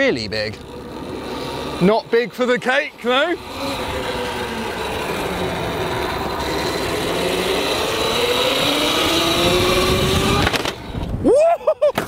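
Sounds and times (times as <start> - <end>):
electric motor whining: 0.0 - 11.2.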